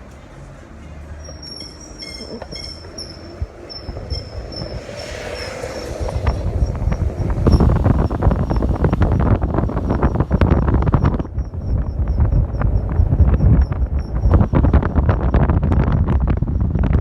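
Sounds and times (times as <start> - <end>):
rumbling road noise with rattling: 0.0 - 17.0
car high-pitched squeal: 1.1 - 15.4.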